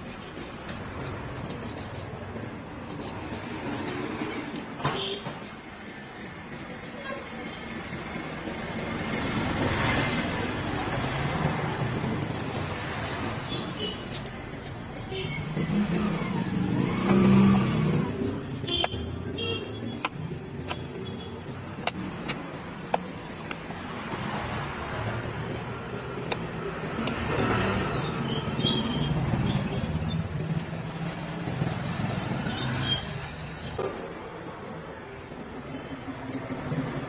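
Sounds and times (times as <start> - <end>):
street traffic passing: 0.0 - 37.0.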